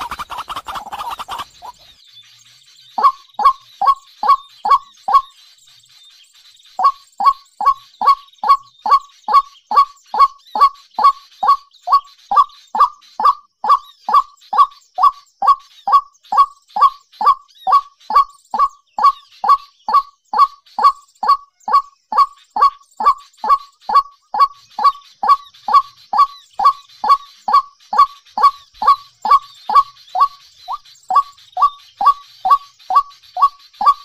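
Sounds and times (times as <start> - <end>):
bird calling falling notes: 0.0 - 1.9, 6.8 - 34.0
faint high chirping: 0.0 - 34.0.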